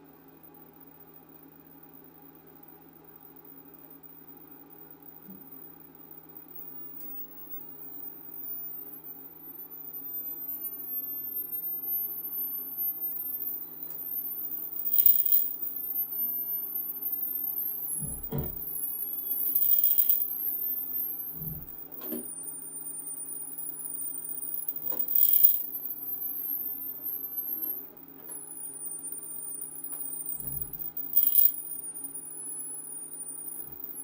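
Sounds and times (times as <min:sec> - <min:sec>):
steady low hum: 0:00.0 - 0:34.0
high feedback tones: 0:05.2 - 0:34.0.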